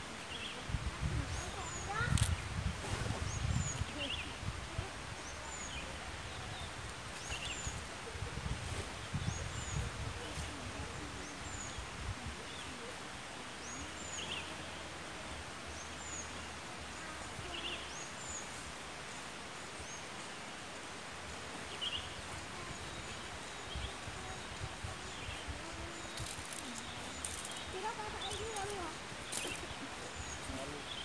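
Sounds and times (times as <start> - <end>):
steady background hiss: 3.3 - 31.0.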